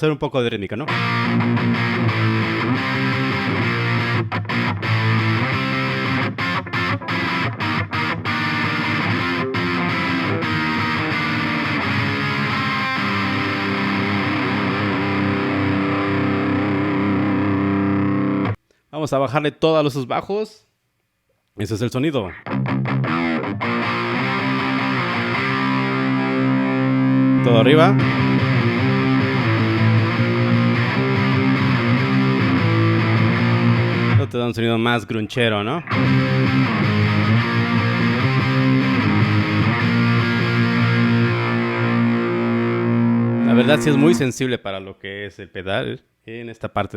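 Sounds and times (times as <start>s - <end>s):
distorted electric guitar: 0.9s - 18.6s, 22.3s - 34.3s, 35.8s - 44.3s.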